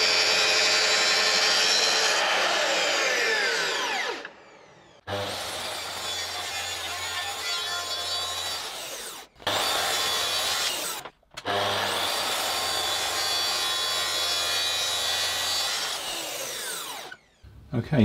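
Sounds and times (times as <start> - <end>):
track saw cutting plywood: 0.0 - 17.4.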